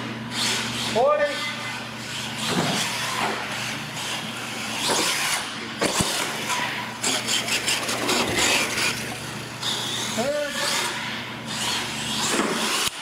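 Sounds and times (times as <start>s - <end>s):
toy truck motor and tyres: 2.0s - 13.0s.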